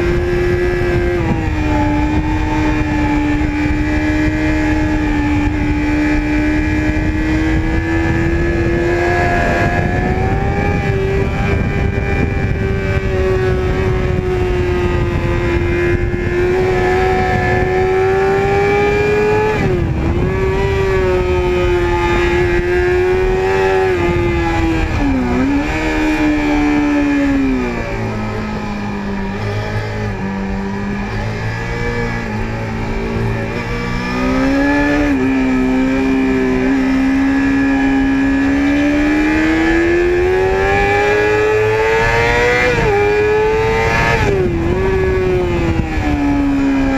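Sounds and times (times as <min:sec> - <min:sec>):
motorcycle engine at high revs: 0:00.0 - 0:46.9
wind noise: 0:00.0 - 0:46.9.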